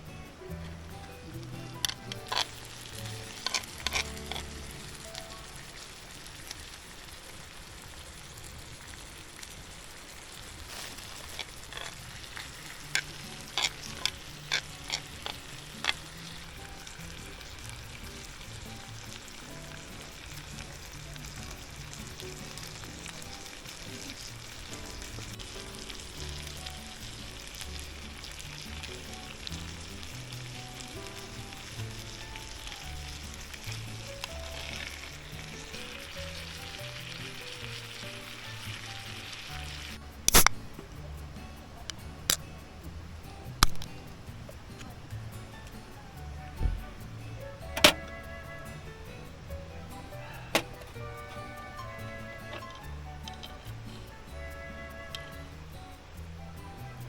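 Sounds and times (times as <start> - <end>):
background music: 0.0 - 6.8, 10.7 - 57.0
food sizzling in a pan: 0.0 - 57.0.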